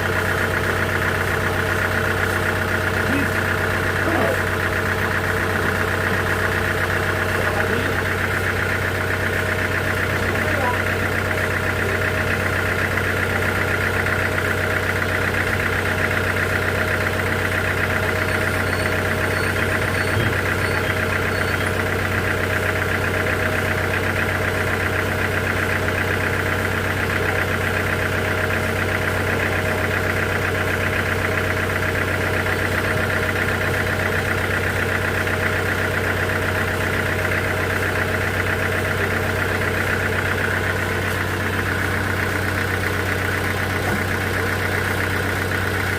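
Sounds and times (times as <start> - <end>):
sawmill machinery drone: 0.0 - 45.9.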